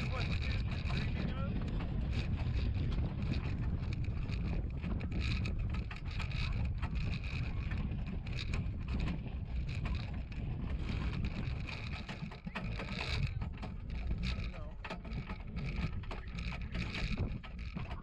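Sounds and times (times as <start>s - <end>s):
cart wheels rumbling on dirt: 0.0s - 18.0s
metal frame rattling: 0.0s - 18.0s
wind on microphone: 0.0s - 18.0s.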